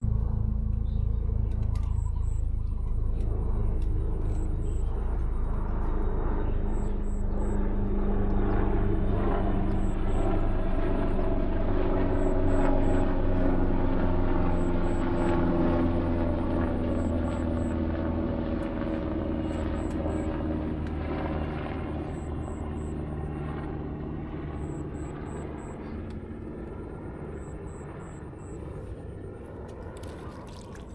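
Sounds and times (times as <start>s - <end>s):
motor drone: 0.0s - 30.9s.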